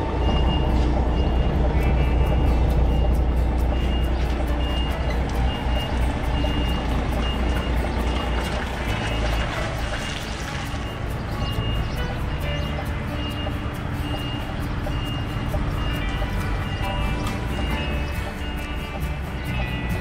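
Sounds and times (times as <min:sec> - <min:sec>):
reverse alarm beeping: 0:00.0 - 0:12.0, 0:13.0 - 0:19.0
diesel truck engine running: 0:00.0 - 0:20.0.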